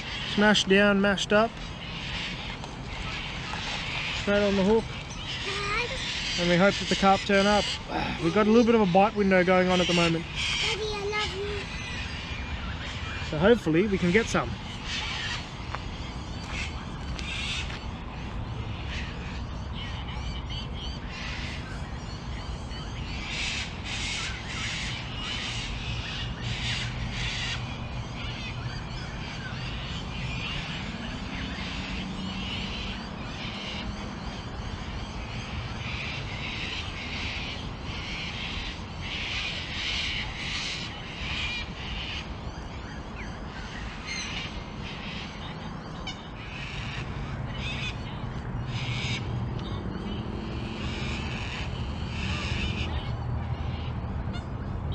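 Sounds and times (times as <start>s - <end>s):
birds calling harshly: 0.0s - 54.9s.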